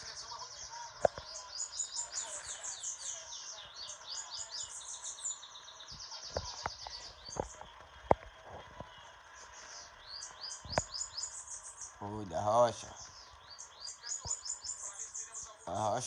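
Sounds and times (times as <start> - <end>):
birds singing buzzy trills: 0.0 - 16.0.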